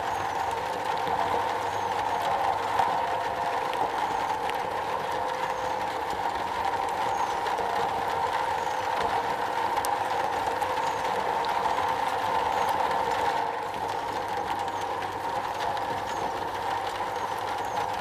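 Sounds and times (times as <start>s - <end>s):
rain on a metal roof: 0.0s - 18.0s.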